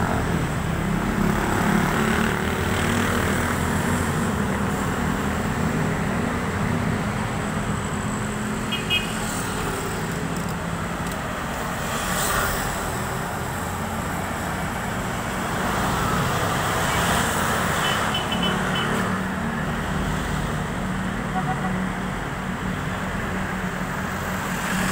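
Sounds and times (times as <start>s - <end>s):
road traffic hum: 0.0s - 24.9s.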